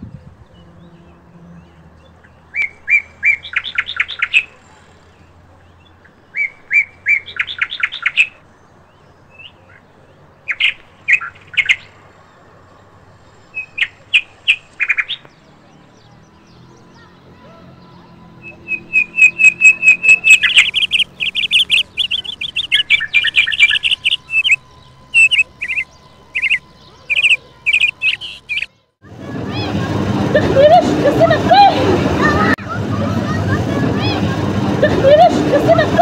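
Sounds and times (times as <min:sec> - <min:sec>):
songbird singing: 0:00.0 - 0:28.9.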